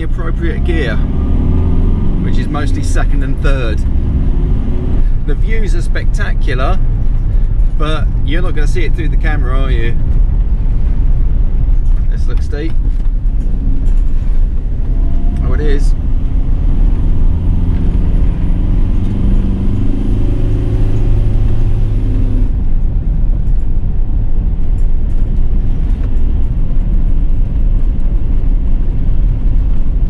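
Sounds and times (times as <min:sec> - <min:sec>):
tyre and road rumble: 0:00.0 - 0:30.0
van engine running: 0:00.0 - 0:30.0.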